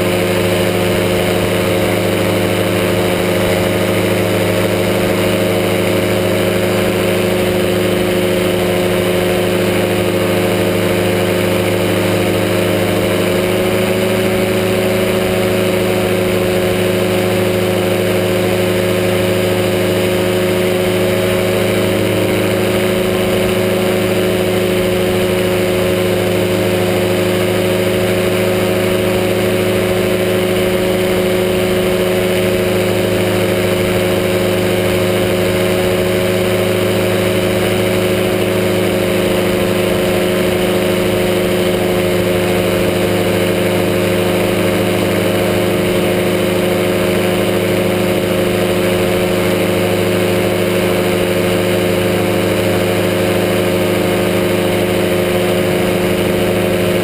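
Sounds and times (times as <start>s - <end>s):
engine and propeller droning: 0.0s - 57.0s.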